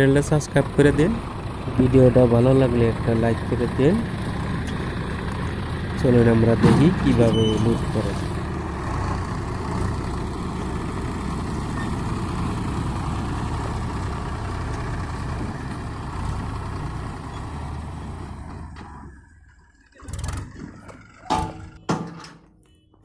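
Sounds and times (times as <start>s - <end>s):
tractor diesel engine running: 0.0s - 22.8s.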